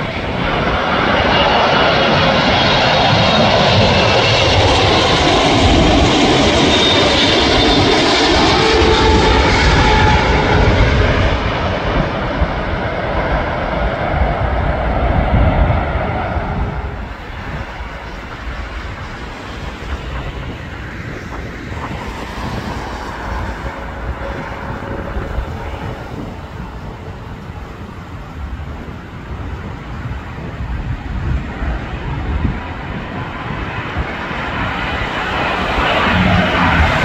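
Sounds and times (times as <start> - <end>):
jet engines rumbling: 0.0 - 37.0
wind buffeting microphone: 0.0 - 37.0.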